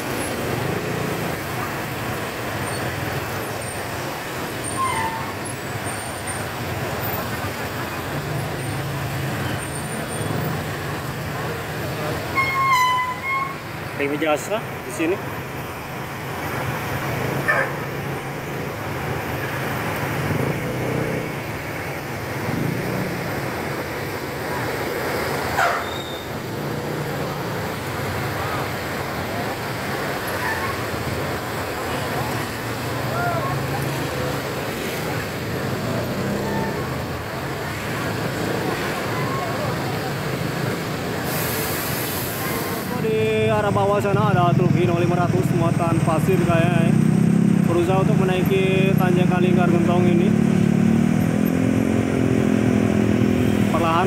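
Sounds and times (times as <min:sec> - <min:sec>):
traffic idling engine hum: 0:00.0 - 0:54.0.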